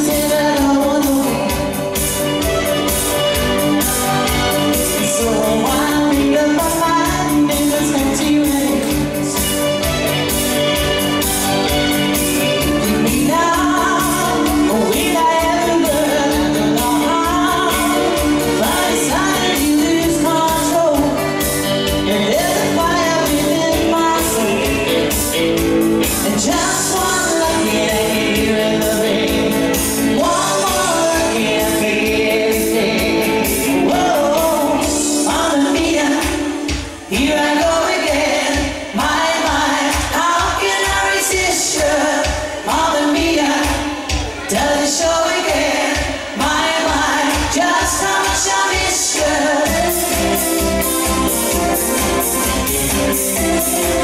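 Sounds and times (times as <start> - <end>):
woman singing pop: 0.0 - 10.4, 11.6 - 54.0
live band music: 0.0 - 54.0.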